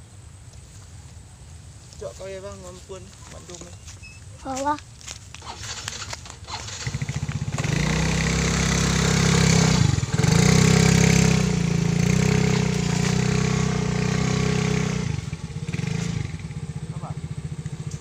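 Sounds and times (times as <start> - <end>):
motorcycle engine running: 2.5 - 18.0.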